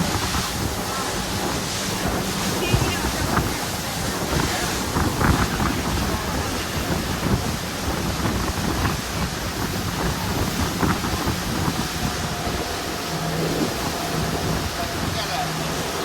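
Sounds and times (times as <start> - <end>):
boat engine drone: 0.0 - 16.0
rushing water: 0.0 - 16.0
wind buffeting microphone: 0.0 - 16.0.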